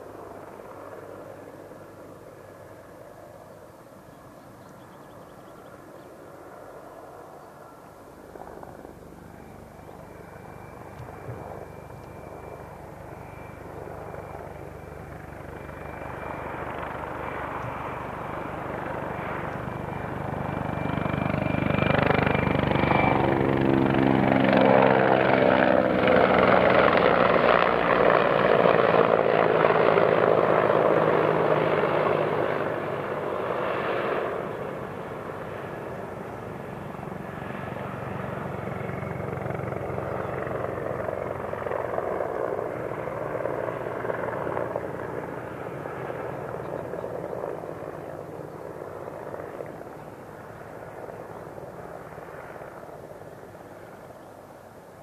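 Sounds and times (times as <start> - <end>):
helicopter flying past: 0.0 - 55.0.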